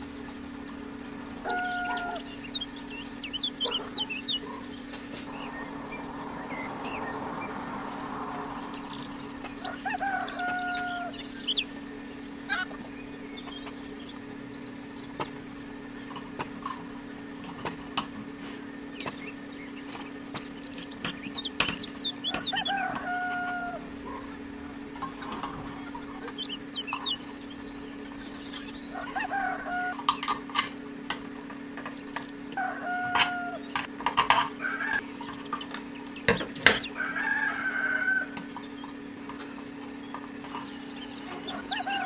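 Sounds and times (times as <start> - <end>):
long level bird call: 0.0 - 42.0
steady low hum: 0.0 - 42.0.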